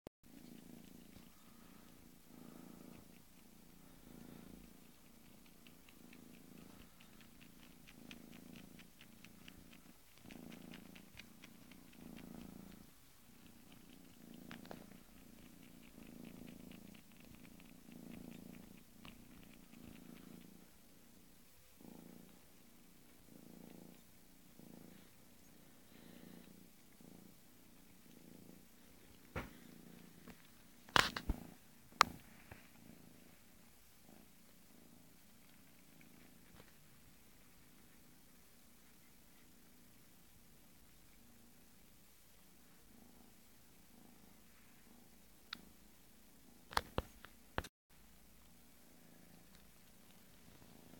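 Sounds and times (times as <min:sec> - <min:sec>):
kitten purring: 0:00.2 - 0:50.9
faint rapid clicking: 0:00.3 - 0:42.9, 0:48.3 - 0:50.9.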